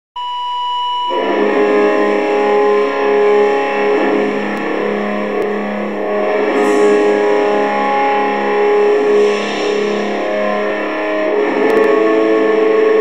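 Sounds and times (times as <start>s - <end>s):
distorted electric guitar: 0.2s - 13.0s
low drone: 1.1s - 13.0s.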